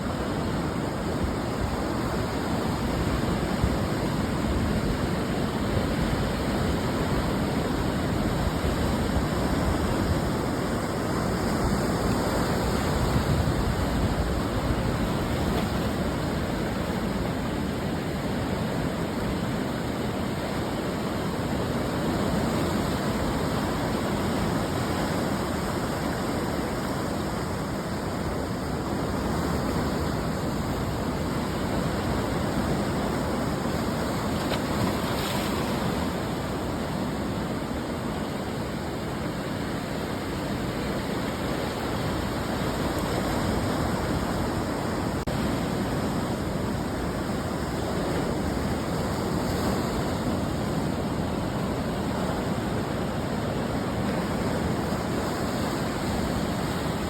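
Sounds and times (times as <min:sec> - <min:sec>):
ocean surf breaking on shore: 0:00.0 - 0:57.0.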